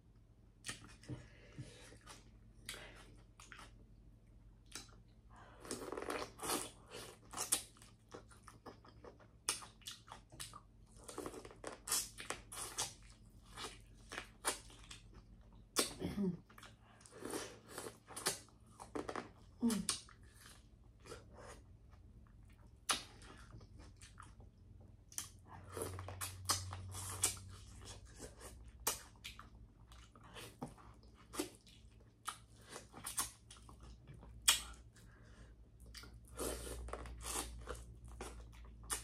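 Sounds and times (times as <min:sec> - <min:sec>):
person chewing and crunching: 0:01.7 - 0:39.0.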